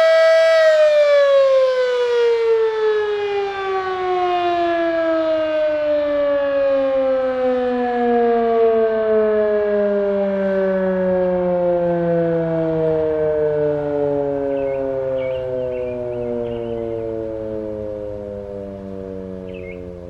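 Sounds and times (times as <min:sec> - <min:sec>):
fire siren winding down: 0:00.0 - 0:20.0.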